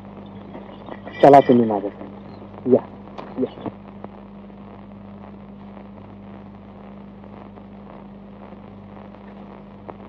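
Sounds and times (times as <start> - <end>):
film soundtrack hiss: 0.0 - 10.0
low hum: 0.0 - 10.0.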